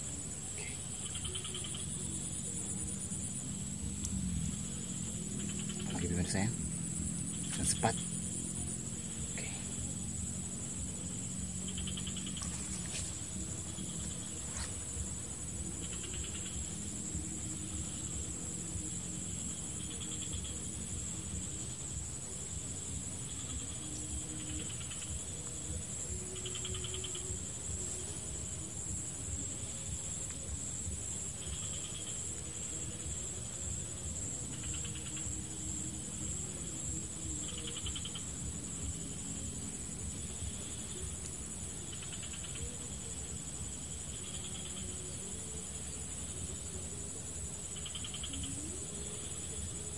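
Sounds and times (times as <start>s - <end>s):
insect high-pitched trill: 0.0s - 49.9s
insect pulsed chirps: 0.0s - 49.9s.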